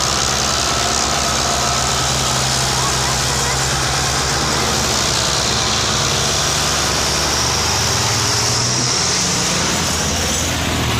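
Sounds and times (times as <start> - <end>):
diesel tractor engines under load: 0.0 - 10.9.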